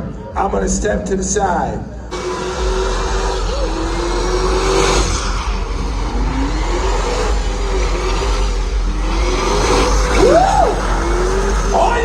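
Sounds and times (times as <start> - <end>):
tire noise: 0.0 - 12.0
car engine revving: 0.7 - 12.0.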